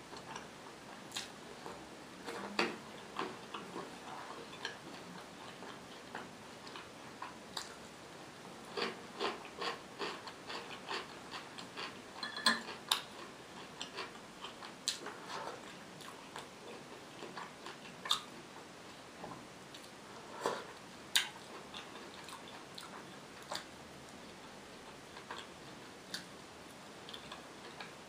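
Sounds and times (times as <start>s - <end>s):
close chewing and wet mouth sounds: 0.1s - 7.8s, 8.6s - 18.5s, 19.7s - 28.0s.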